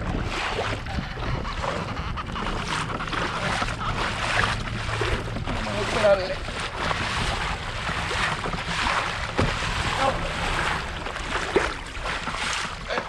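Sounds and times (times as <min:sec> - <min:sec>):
water rushing along kayak hull: 0:00.0 - 0:13.0.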